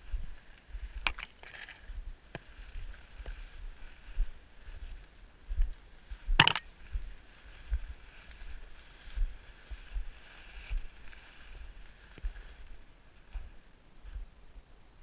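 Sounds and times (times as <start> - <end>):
footsteps through dry grass: 0.0 - 14.4.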